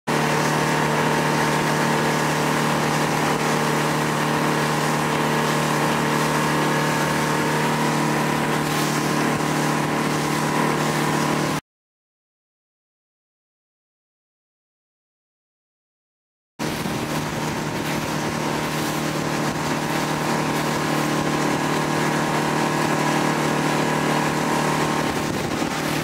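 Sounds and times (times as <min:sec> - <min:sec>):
outboard motor droning: 0:00.1 - 0:11.6, 0:16.6 - 0:26.0.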